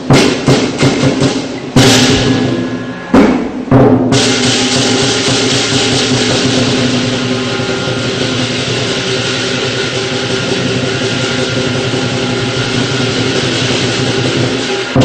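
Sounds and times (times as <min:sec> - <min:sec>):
cymbals ringing: 0:00.0 - 0:15.0
drum roll: 0:00.0 - 0:15.0
percussion crashes: 0:00.0 - 0:15.0
gong: 0:01.8 - 0:15.0.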